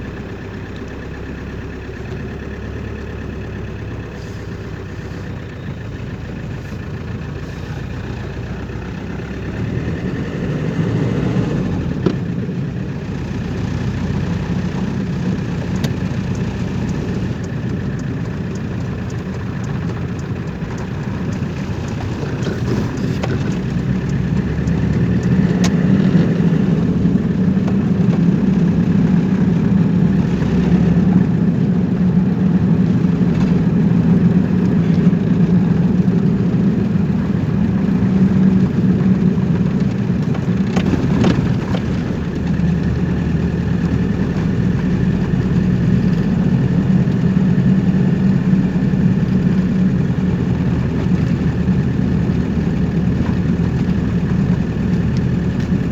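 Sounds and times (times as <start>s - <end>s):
road noise: 0.0s - 55.9s
vehicle engine: 0.0s - 55.9s.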